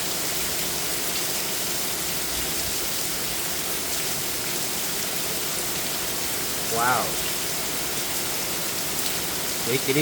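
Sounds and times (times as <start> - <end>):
heavy rain on hard surfaces: 0.0 - 10.0
water gushing off roof: 0.0 - 10.0.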